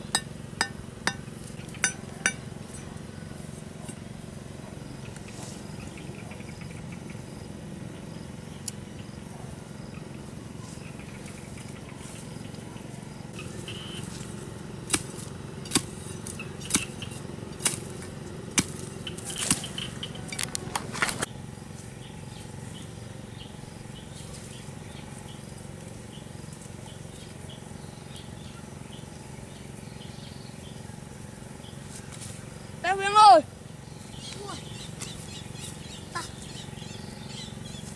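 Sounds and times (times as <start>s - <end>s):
outdoor background: 0.0s - 37.9s.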